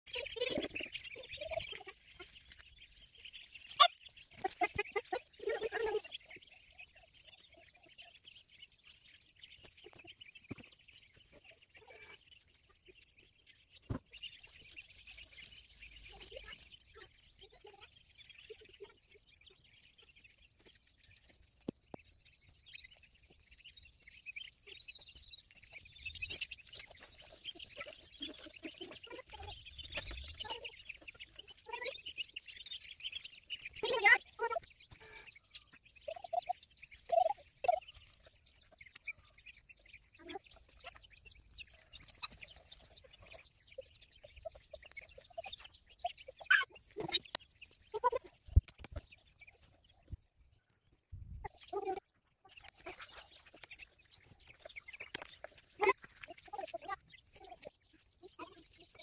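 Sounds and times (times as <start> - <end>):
ducklings peeping: 0.1 - 59.0.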